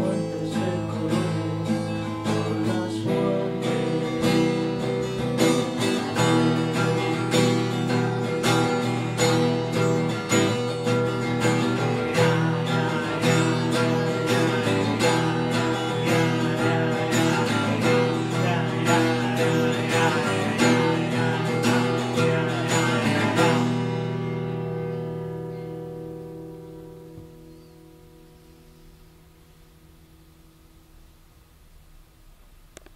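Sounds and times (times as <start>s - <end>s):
strummed acoustic guitar: 0.0s - 31.1s.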